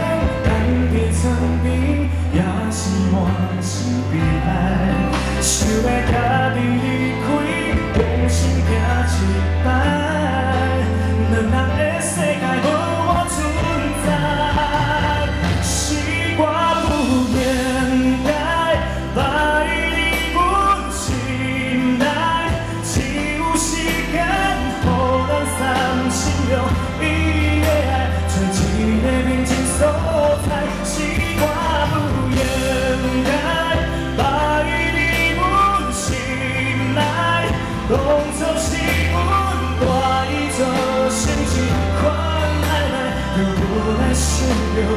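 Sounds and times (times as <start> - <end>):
bass line: 0.0 - 44.9
live pop band: 0.0 - 44.9
person singing: 0.0 - 44.9.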